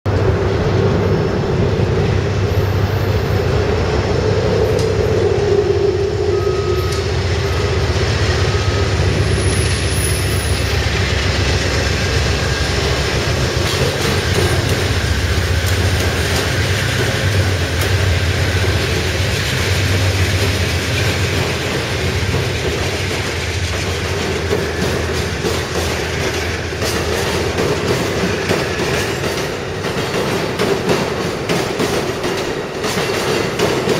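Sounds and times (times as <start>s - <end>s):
passenger train rumbling past: 0.0s - 33.9s.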